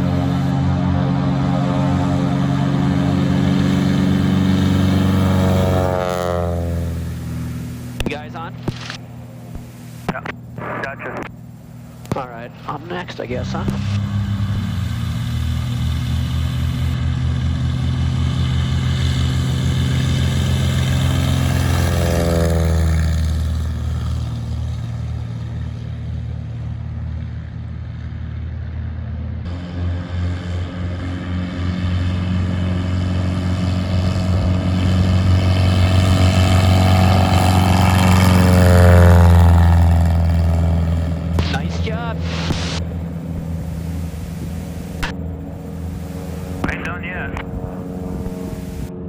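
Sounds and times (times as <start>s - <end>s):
propeller airplane engine: 0.0s - 49.0s.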